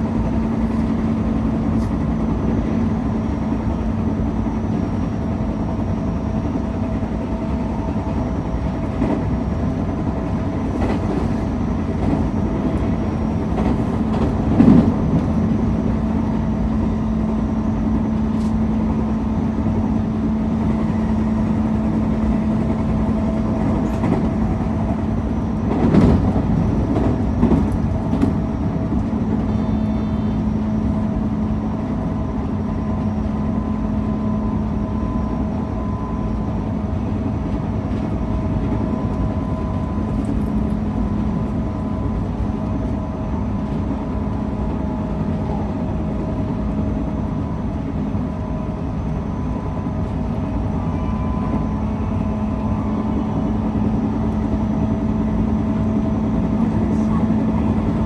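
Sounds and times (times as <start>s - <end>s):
electric train running noise: 0.0s - 58.0s.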